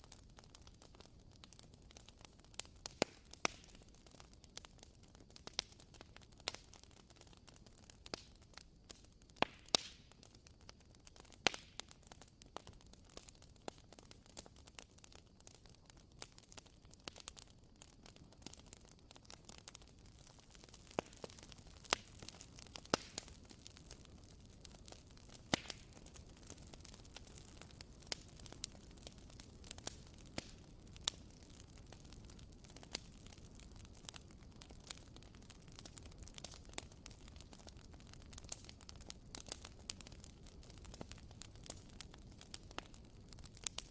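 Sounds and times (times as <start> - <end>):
low steady hiss: 0.0 - 43.9.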